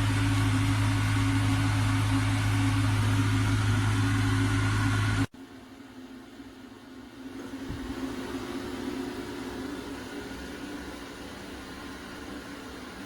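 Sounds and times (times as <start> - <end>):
exhaust fan humming: 0.0 - 13.0.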